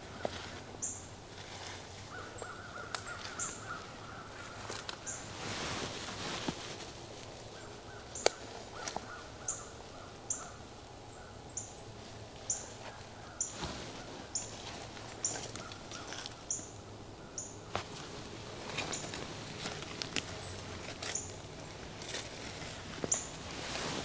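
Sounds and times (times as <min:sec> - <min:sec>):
quiet woodland background: 0:00.0 - 0:24.0.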